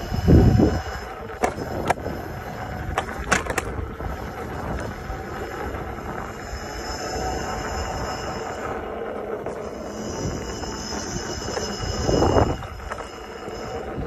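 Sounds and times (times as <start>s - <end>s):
electric unicycle motor and tyres: 0.0s - 14.0s.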